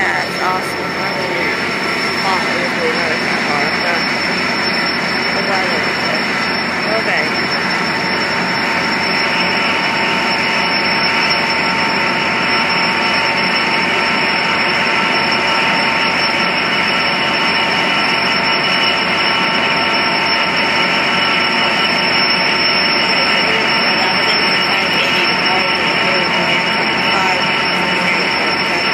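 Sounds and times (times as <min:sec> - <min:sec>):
high whining tones: 0:00.0 - 0:28.9
locomotive engine drone: 0:00.0 - 0:28.9.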